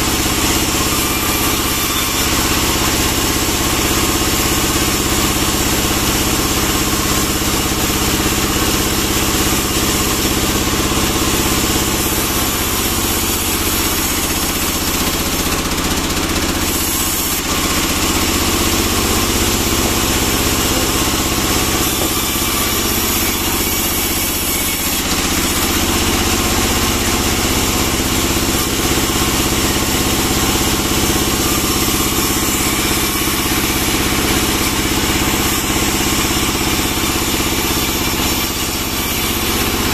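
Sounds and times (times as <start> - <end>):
band saw machine drone: 0.0 - 39.9.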